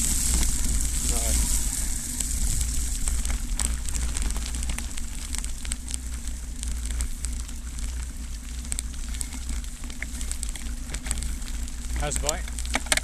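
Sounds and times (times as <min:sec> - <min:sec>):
bicycle tyres on wet gravel: 0:00.0 - 0:13.0
steady low rumble: 0:00.0 - 0:13.0.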